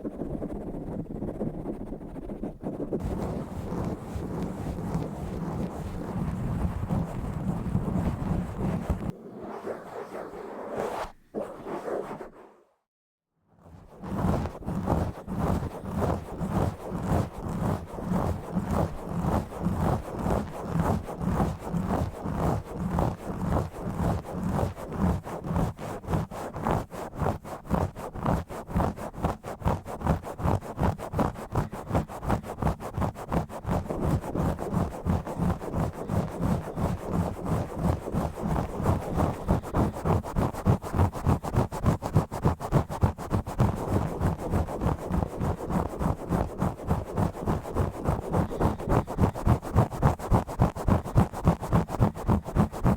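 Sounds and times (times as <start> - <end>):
scratching on a microphone: 0.0 - 12.7, 13.6 - 52.9.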